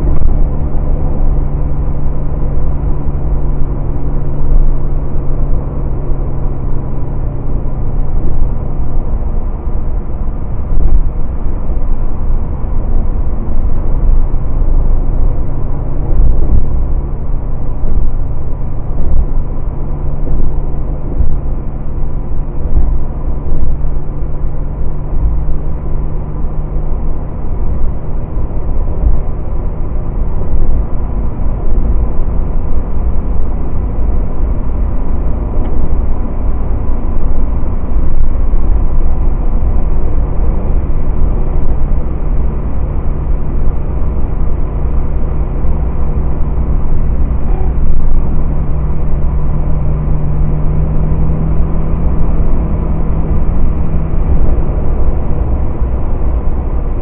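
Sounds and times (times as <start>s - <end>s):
car engine running: 0.0s - 57.0s
road and wind rumble: 0.0s - 57.0s.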